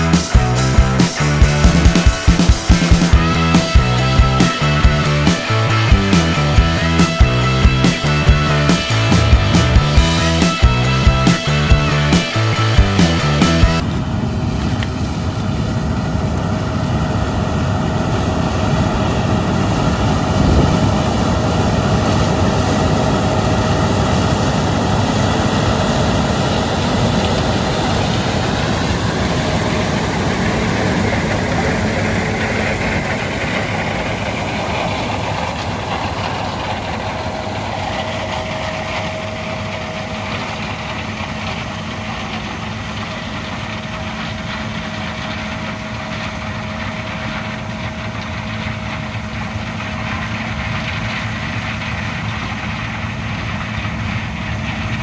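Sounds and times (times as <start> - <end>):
diesel farm machinery running: 0.0 - 14.5, 15.2 - 55.0.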